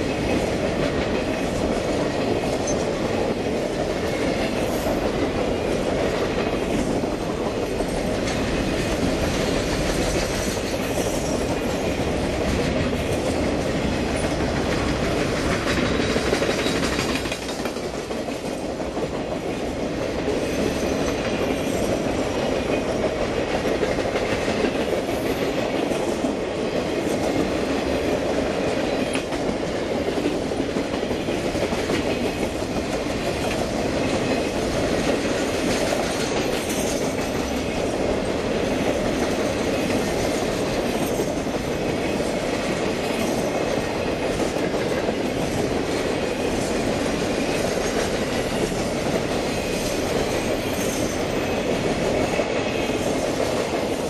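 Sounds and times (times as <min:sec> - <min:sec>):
steel wheels clattering on rails: 0:00.0 - 0:54.0
train rolling past: 0:00.0 - 0:54.0.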